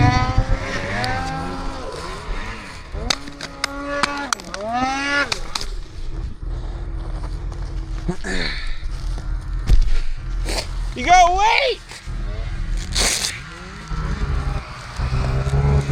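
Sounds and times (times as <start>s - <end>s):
snowmobile engine revving: 0.0s - 15.9s.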